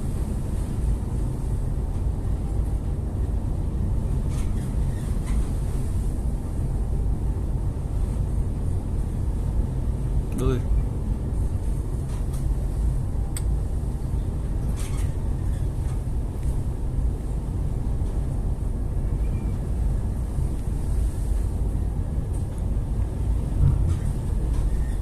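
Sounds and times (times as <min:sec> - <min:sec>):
boat low rumble: 0:00.0 - 0:25.0.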